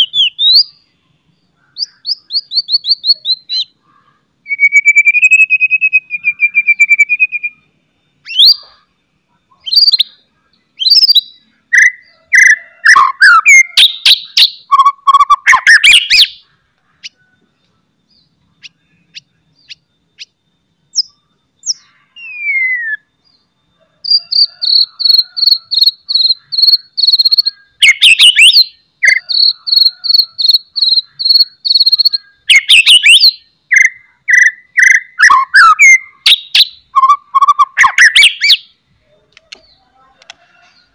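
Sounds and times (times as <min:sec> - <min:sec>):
bird singing whistles: 0:00.0 - 0:00.8, 0:01.8 - 0:03.7, 0:04.4 - 0:08.7, 0:10.8 - 0:16.4, 0:17.1 - 0:23.5, 0:24.1 - 0:38.7.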